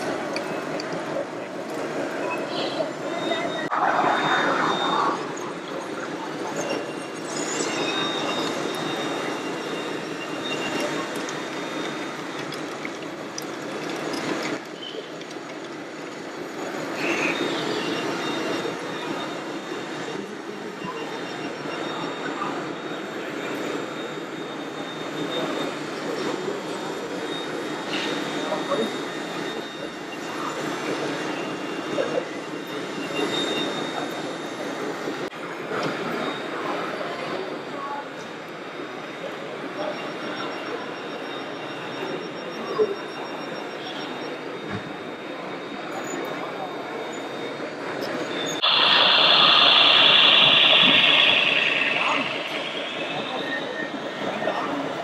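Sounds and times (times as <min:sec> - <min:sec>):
crowd hubbub: 0:00.0 - 0:55.0
high-pitched motor whine: 0:00.0 - 0:55.0.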